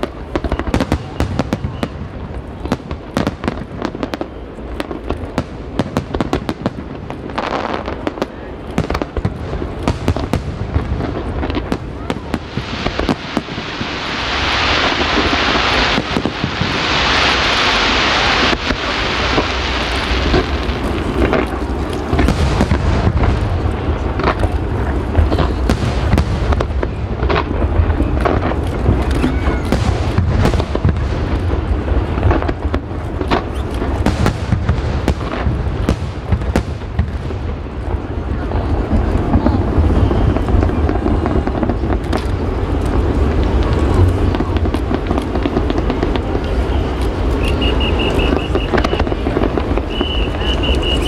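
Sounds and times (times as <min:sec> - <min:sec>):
fireworks bangs and booms: 0:00.0 - 0:51.0
fireworks crackling and hissing: 0:00.0 - 0:51.0.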